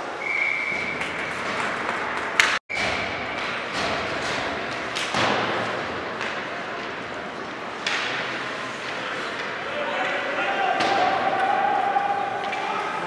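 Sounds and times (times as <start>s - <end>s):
indoor hall background: 0.0s - 13.0s.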